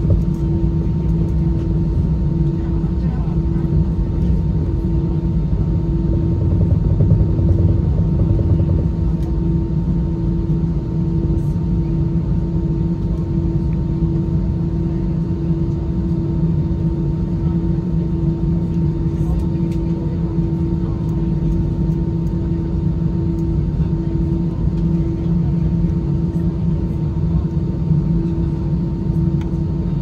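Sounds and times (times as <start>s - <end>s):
airplane cabin hum: 0.0s - 30.0s.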